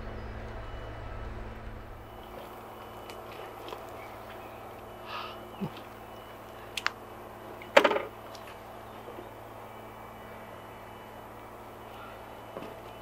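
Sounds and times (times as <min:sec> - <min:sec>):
distant road construction hum: 0:00.0 - 0:13.0.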